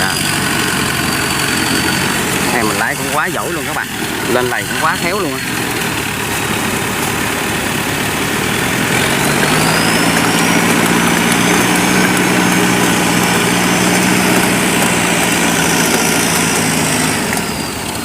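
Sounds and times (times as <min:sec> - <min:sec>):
diesel tractor engine revving: 0:00.0 - 0:18.0.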